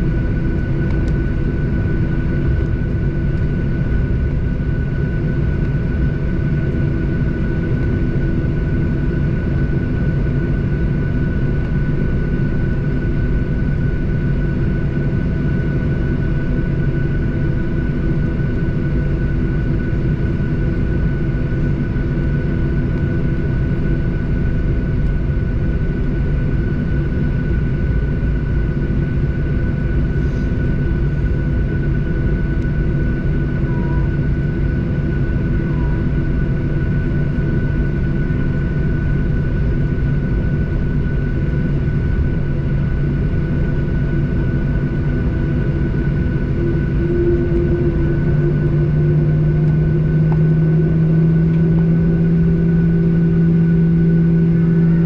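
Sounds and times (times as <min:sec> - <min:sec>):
jet engine low rumble: 0:00.0 - 0:55.0
thin steady whine: 0:00.0 - 0:55.0.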